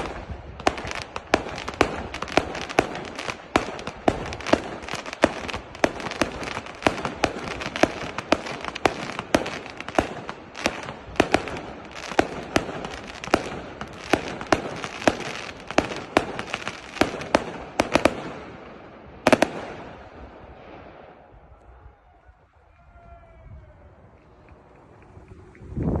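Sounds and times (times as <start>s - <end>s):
fireworks crackle: 0.0s - 21.3s
fireworks bangs: 0.0s - 21.5s.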